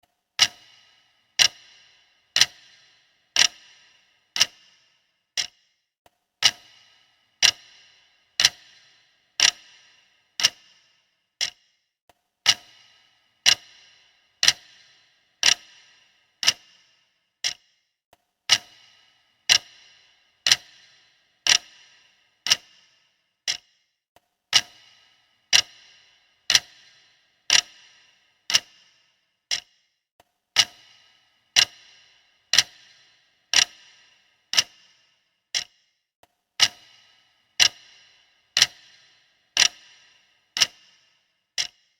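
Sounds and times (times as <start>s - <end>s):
mechanical clock ticking: 0.4s - 17.9s, 18.5s - 41.9s.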